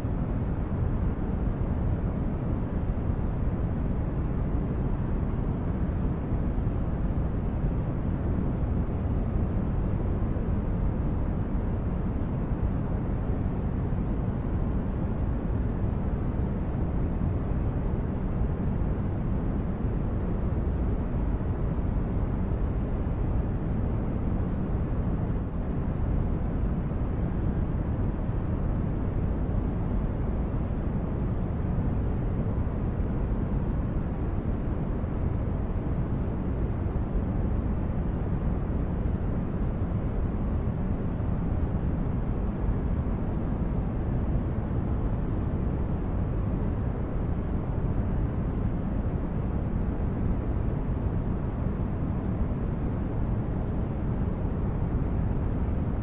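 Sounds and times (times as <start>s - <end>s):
deep brown-noise rumble: 0.0s - 56.0s.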